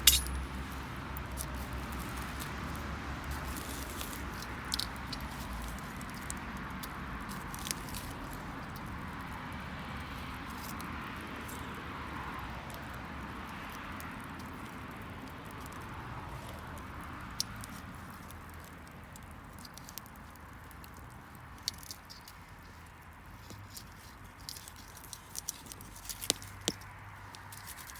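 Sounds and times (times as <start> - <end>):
burning wood crackling and popping: 0.0 - 27.9.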